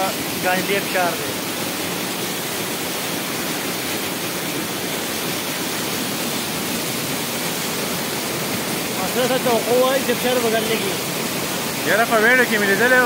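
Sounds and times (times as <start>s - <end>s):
waterfall cascading over rocks: 0.0s - 13.0s.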